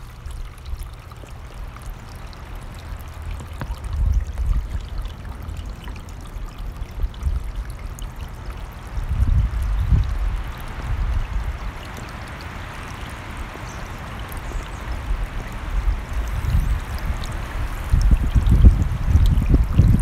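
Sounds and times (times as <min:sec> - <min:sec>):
wind buffeting microphone: 0:01.4 - 0:12.0, 0:13.3 - 0:20.0.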